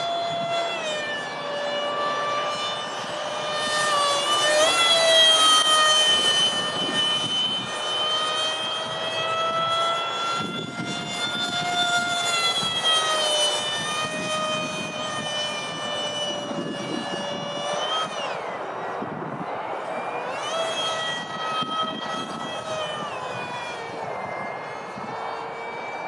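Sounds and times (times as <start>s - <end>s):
model jet fan whining: 0.0s - 26.0s.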